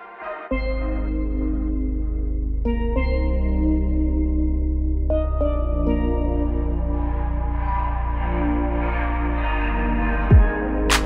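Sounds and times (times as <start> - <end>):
synth chords: 0.0 - 11.0.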